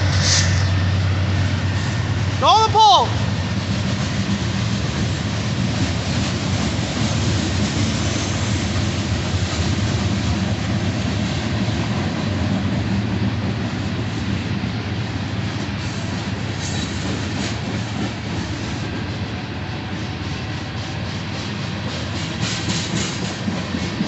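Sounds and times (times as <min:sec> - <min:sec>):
diesel locomotive drone: 0:00.0 - 0:24.0
wheel and rail noise: 0:00.0 - 0:24.0.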